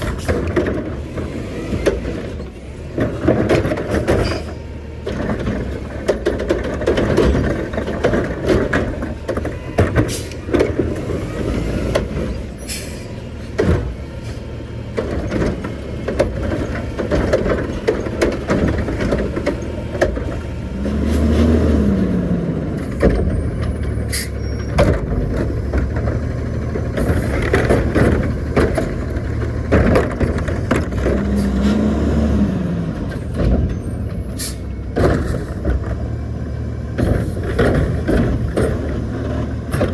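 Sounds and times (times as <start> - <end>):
garbage truck engine: 0.0 - 39.9.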